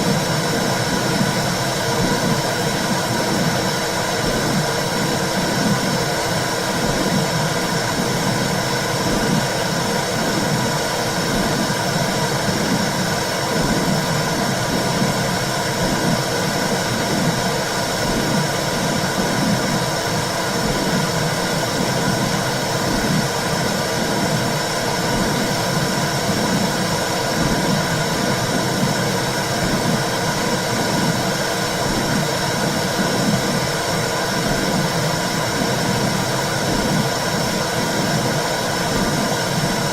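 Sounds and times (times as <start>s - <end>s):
low rhythmic pulsing: 0.0s - 39.9s.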